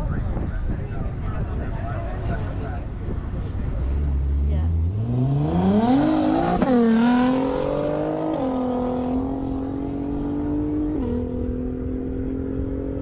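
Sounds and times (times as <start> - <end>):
sports car accelerating: 1.8 - 13.0.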